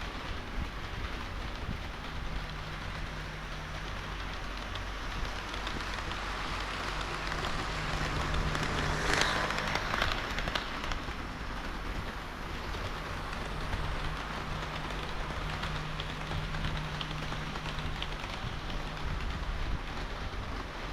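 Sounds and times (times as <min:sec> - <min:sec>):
fine clicking: 0:00.0 - 0:20.9
low motor hum: 0:00.0 - 0:20.9
model train wheels on rail: 0:00.0 - 0:20.9.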